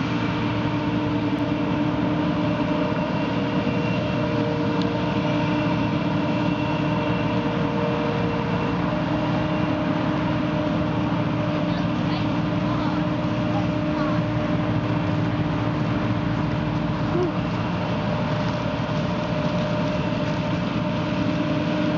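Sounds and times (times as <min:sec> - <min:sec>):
combine harvester droning: 0:00.0 - 0:21.9.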